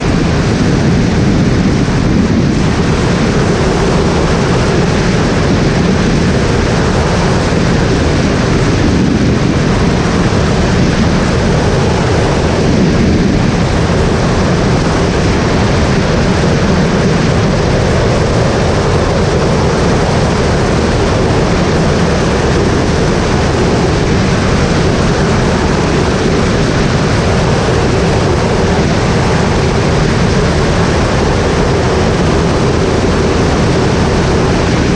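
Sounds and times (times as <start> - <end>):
aircraft engine and propeller drone: 0.0 - 34.9
rush of noise: 0.0 - 34.9.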